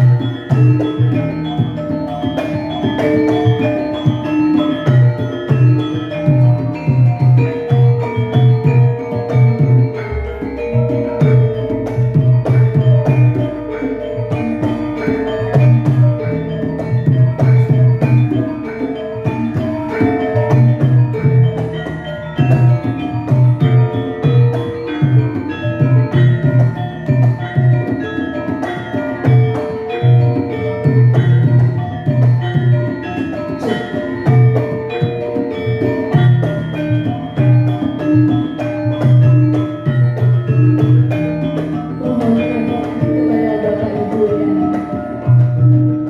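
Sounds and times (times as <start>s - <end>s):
gamelan ensemble playing: 0.0s - 46.0s.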